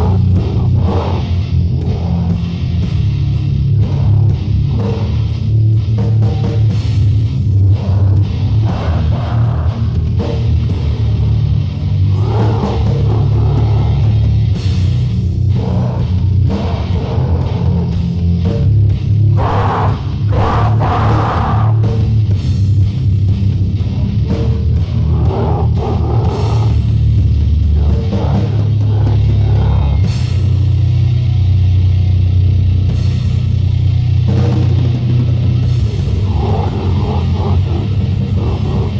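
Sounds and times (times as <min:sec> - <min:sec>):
growled vocals: 0:00.0 - 0:31.3, 0:34.3 - 0:38.9
drums: 0:00.0 - 0:38.9
heavily distorted guitar: 0:00.0 - 0:38.9.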